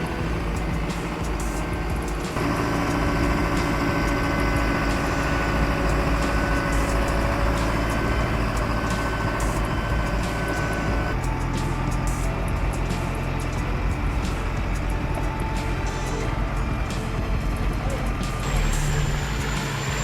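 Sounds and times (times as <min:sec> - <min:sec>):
heavy vehicle engine rumbling: 0:00.0 - 0:20.0.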